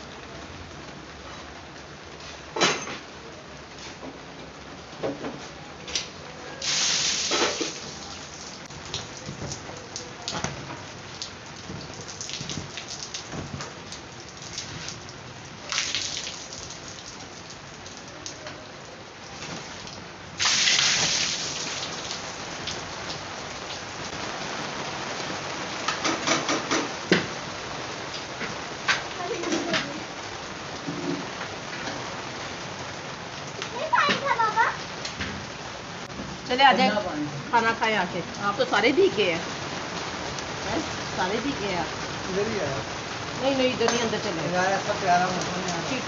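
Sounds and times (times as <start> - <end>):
rain on a rooftop: 0.0 - 46.0.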